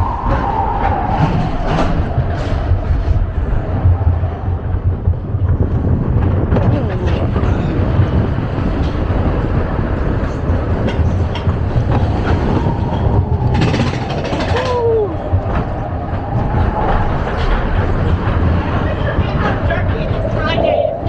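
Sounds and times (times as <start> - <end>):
coaster car rumble and rattle: 0.0 - 21.0.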